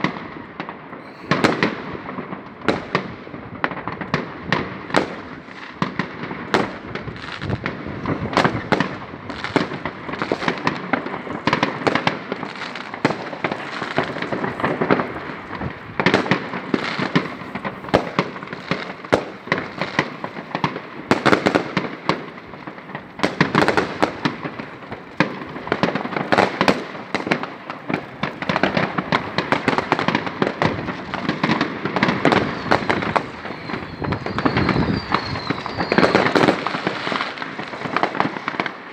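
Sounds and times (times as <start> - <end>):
fireworks and firecrackers banging: 0.0 - 38.9.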